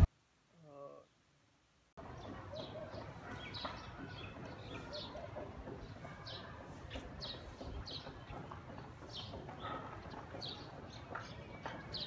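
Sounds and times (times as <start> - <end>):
outdoor background rush: 1.7 - 12.0
small birds chirping: 2.0 - 12.0.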